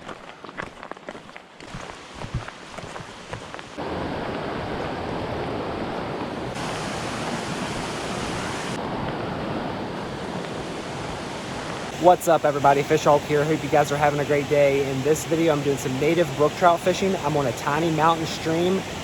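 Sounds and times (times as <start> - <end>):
mountain stream rushing: 1.6 - 19.0.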